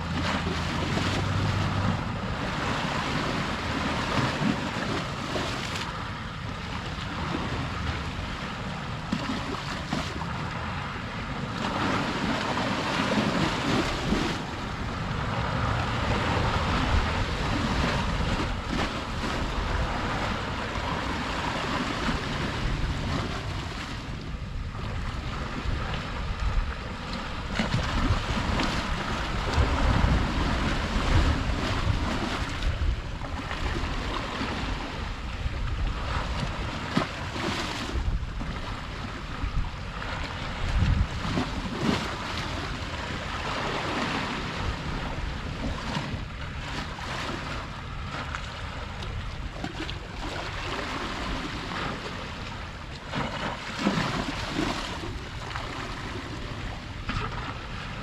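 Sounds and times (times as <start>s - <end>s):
wind buffeting microphone: 0.0s - 52.9s
sea waves washing: 0.0s - 58.0s.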